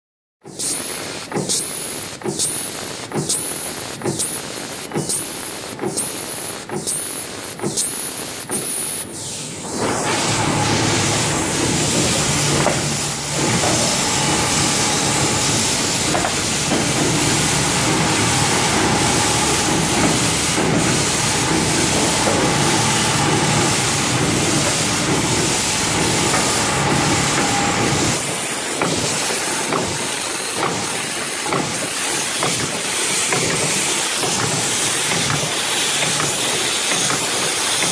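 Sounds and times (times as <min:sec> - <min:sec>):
workshop hiss: 0:00.4 - 0:37.9
welding machine hissing pulses: 0:00.5 - 0:09.4, 0:10.0 - 0:37.9.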